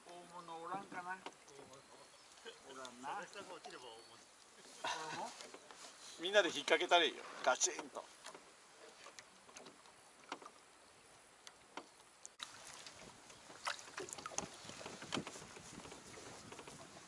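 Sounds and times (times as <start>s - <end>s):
hiss of water and wind: 0.0s - 17.0s.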